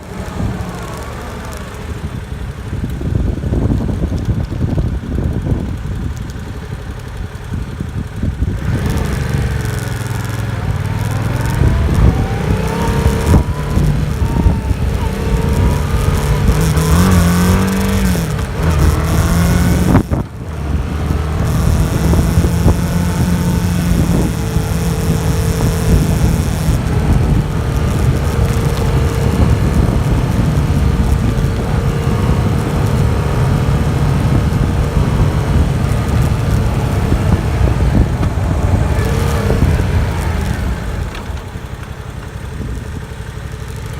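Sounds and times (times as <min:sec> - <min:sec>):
wind noise hissing: 0:00.0 - 0:43.4
motorcycle engine revving: 0:00.0 - 0:43.9.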